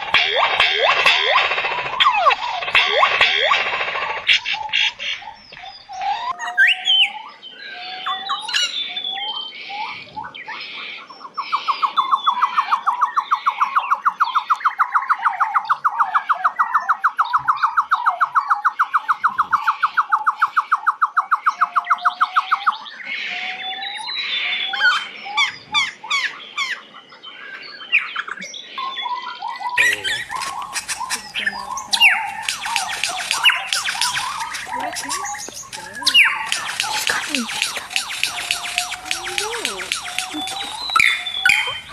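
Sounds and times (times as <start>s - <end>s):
pheasant calls: 0.0s - 41.9s.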